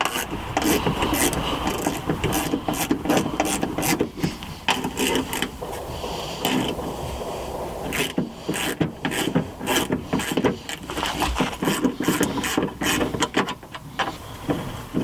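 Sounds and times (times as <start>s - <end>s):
metal parts clicking and rattling: 0.0s - 6.8s, 7.9s - 13.8s.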